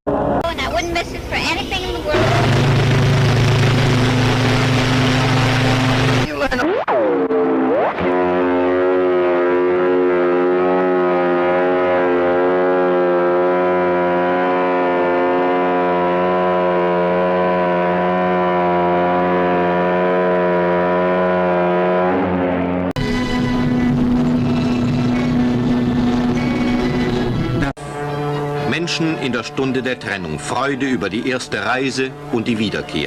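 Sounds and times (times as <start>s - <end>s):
ship's horn blast: 1.1s - 6.6s, 7.2s - 33.0s.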